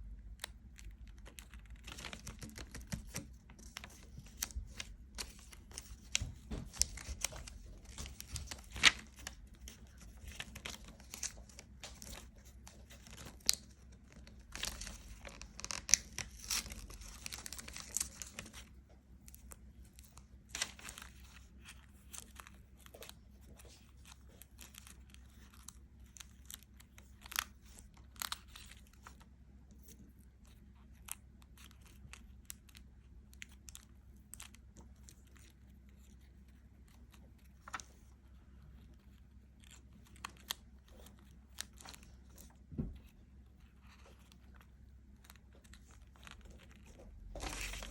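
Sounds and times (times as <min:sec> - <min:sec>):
crinkling and tearing: 0:00.3 - 0:47.9.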